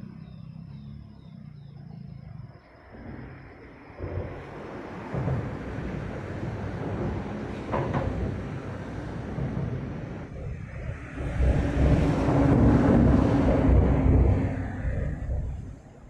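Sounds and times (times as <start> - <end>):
traffic rumbling over a bridge: 0.0 - 16.0.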